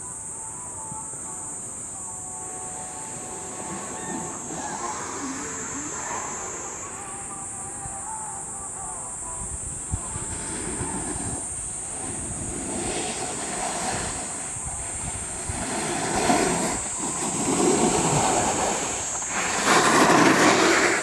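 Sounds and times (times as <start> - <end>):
rushing wind: 1.0 - 21.0
snowboard scraping over snow: 2.4 - 8.2, 9.4 - 21.0.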